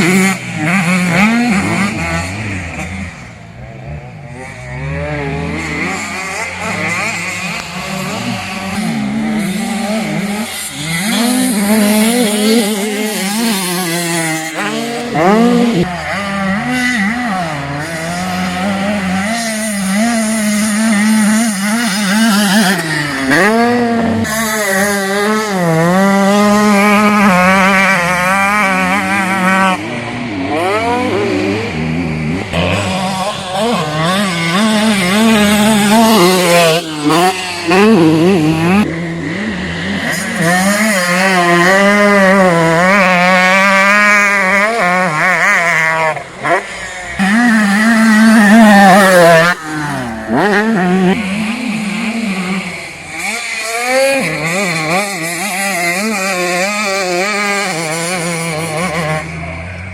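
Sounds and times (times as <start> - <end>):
motocross bikes revving: 0.0 - 59.9.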